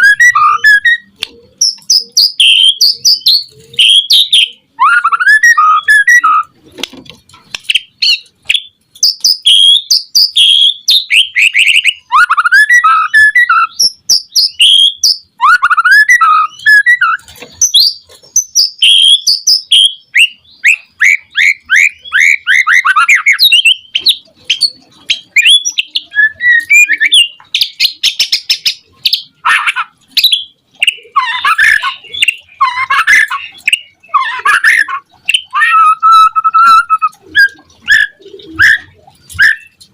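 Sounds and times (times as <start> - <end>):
bird singing whistles and trills: 0.0 - 6.6, 7.7 - 39.9.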